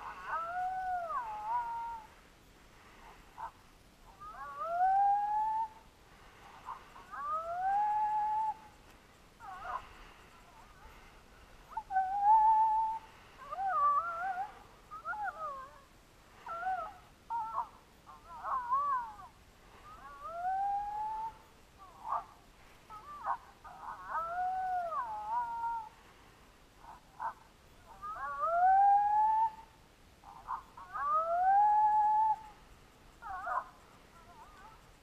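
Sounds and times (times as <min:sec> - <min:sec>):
coyotes howling and yipping: 0:00.0 - 0:35.0.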